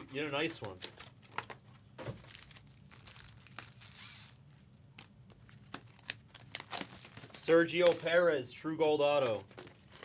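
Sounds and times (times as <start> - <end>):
cards and foil wrappers rustling: 0.0 - 10.0
wrapper crinkle: 0.5 - 8.4, 9.0 - 10.0.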